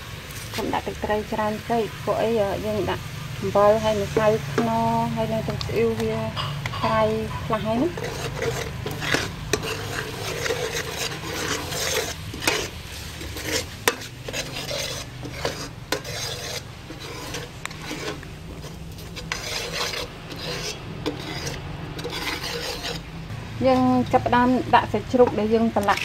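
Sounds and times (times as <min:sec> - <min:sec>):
light sizzle: 0:00.0 - 0:26.0
utensil stirring and scraping in pan: 0:00.0 - 0:26.0.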